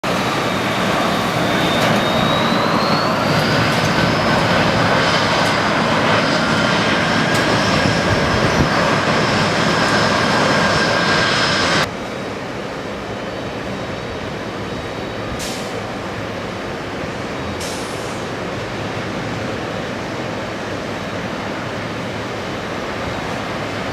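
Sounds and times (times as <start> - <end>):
jet engines rushing and whining: 0.0 - 23.9.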